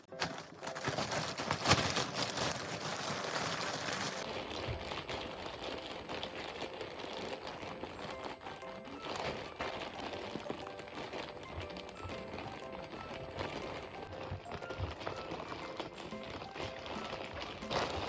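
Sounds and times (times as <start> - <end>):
bag crinkling and rustling: 0.0 - 18.0.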